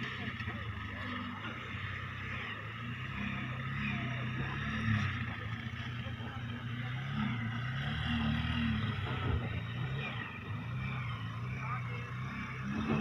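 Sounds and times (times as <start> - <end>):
heavy machinery diesel engine: 0.0 - 13.0.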